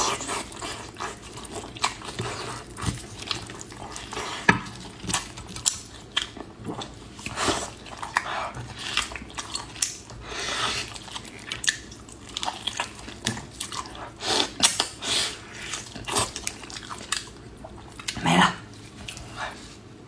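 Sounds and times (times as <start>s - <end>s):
person chewing food: 0.0s - 19.8s.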